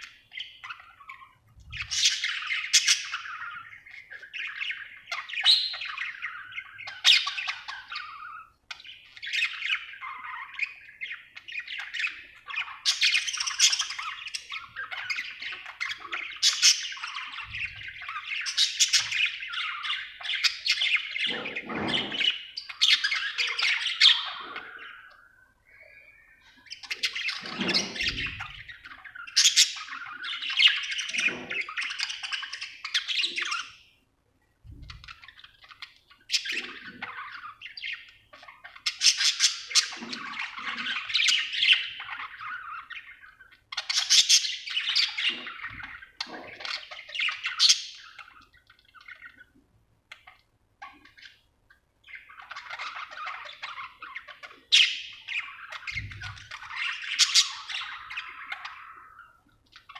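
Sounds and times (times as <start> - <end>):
budgerigar chirping and chattering: 0.0 - 26.0, 26.6 - 33.8, 34.8 - 49.5, 50.1 - 59.9.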